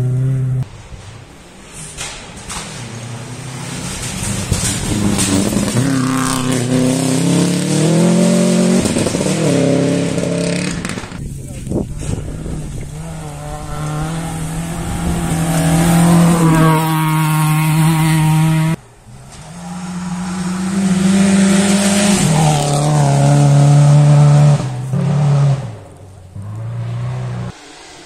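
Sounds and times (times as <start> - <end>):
rally car engines at full throttle: 2.0 - 28.0.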